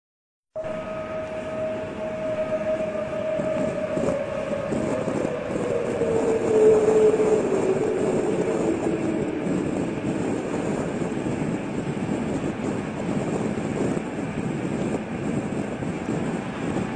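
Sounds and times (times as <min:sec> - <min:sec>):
deep rumbling drone: 0:00.5 - 0:16.9.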